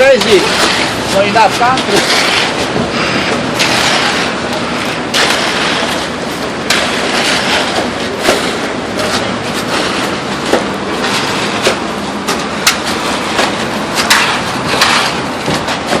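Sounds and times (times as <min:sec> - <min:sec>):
concrete mixer truck running: 0:00.0 - 0:16.0
sharp knocks and scrapes: 0:00.0 - 0:16.0.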